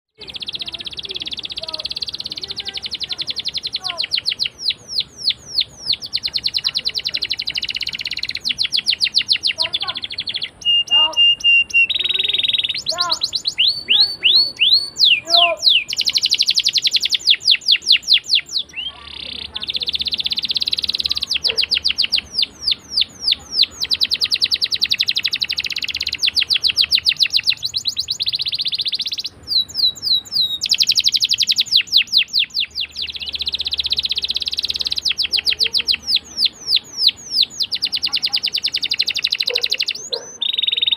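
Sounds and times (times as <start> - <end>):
canary singing trills: 0.1 - 40.9.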